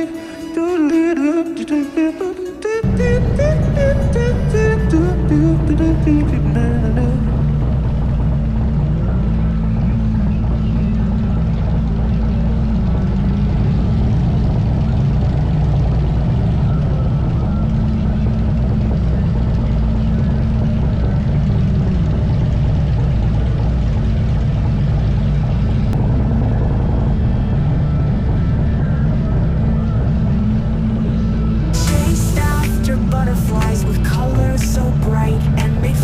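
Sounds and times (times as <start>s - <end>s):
motorcycle engine running: 2.8s - 36.0s
road noise: 2.8s - 36.0s.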